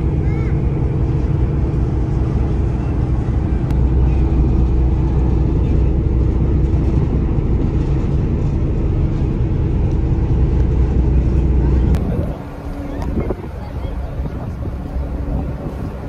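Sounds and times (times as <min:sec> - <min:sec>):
ferry engines droning: 0:00.0 - 0:16.0.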